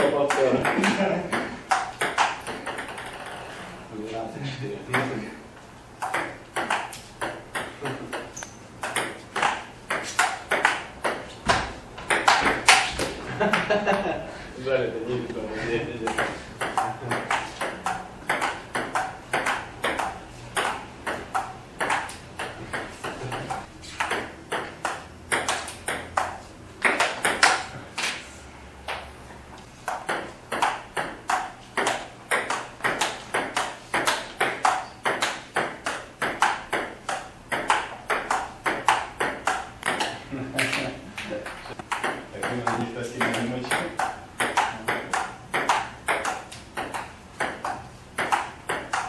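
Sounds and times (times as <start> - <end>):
ping pong ball clicking: 0.2 - 3.4, 6.0 - 11.3, 12.1 - 14.0, 16.0 - 27.7, 29.9 - 40.8, 41.4 - 49.0.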